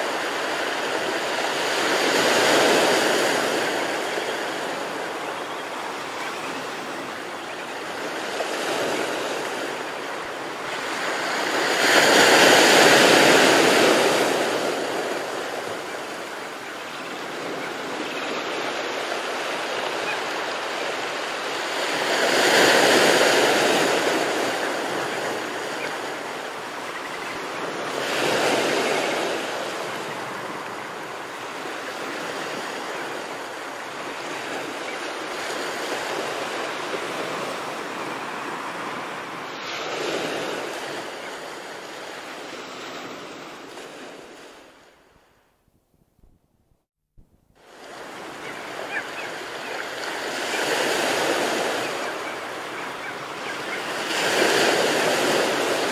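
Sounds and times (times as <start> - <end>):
ocean waves breaking on beach: 0.0 - 45.3, 47.6 - 55.9.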